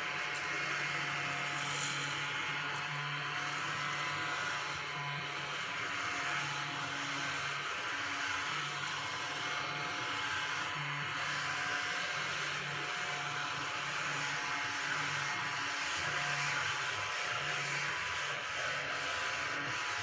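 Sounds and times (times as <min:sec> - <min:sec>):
handheld vacuum motor whining: 0:00.0 - 0:20.0.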